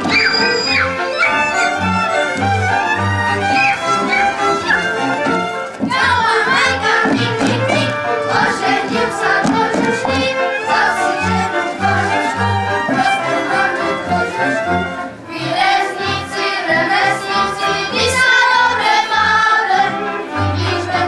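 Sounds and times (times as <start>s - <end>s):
instrumental accompaniment: 0.0s - 21.0s
group of voices singing: 3.4s - 21.0s.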